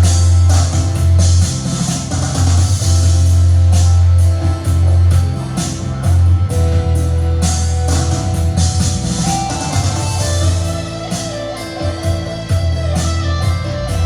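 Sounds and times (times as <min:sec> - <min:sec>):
keyboard rumba accompaniment: 0:00.0 - 0:14.0.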